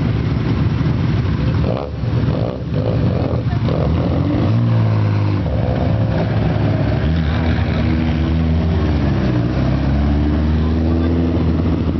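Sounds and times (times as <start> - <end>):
car engine at low revs: 0.0 - 11.9.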